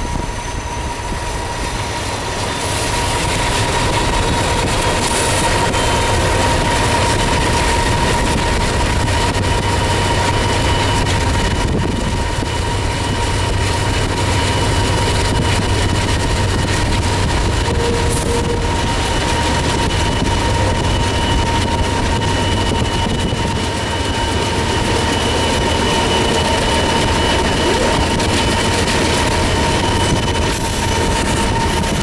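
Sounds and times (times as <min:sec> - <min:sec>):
diesel locomotives rumbling: 0:00.0 - 0:32.0
steady high tone: 0:03.6 - 0:31.8.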